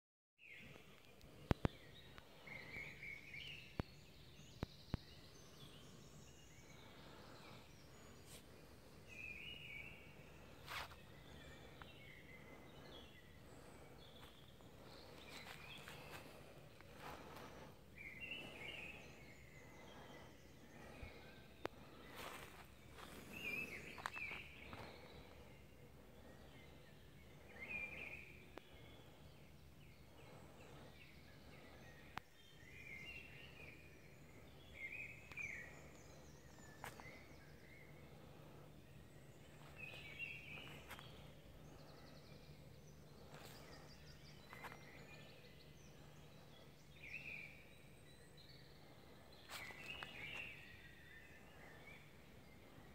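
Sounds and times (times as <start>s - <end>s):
faint birdsong: 0.4s - 52.9s.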